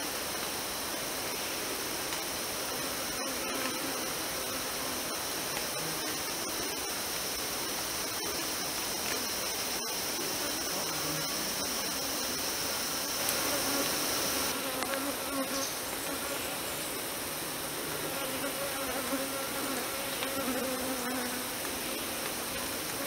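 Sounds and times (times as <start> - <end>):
insect chorus drone: 0.0 - 23.0
flying insect buzzing: 2.1 - 23.0.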